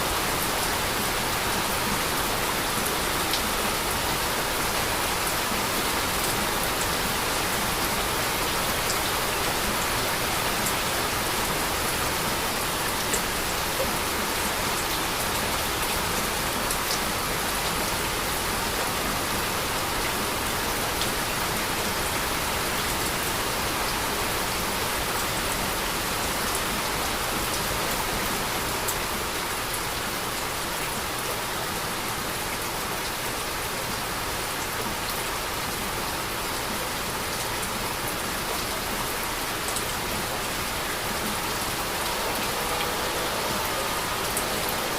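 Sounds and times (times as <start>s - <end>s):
heavy rainfall: 0.0s - 44.9s.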